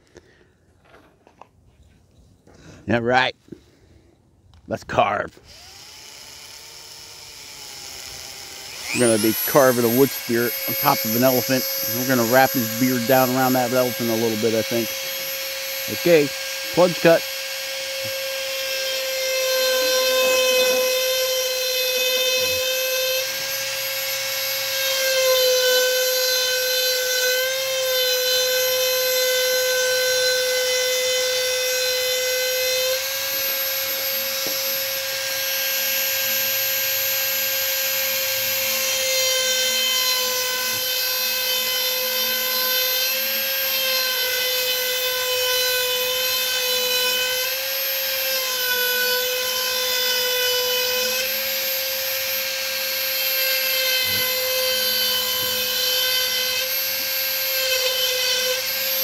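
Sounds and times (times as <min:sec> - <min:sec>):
rotary tool grinding wood: 0:05.3 - 0:59.0.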